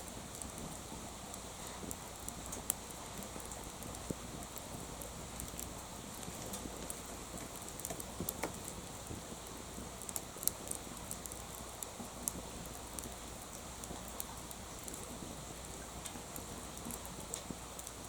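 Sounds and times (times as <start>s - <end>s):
wood bonfire crackling and popping: 0.0s - 18.0s.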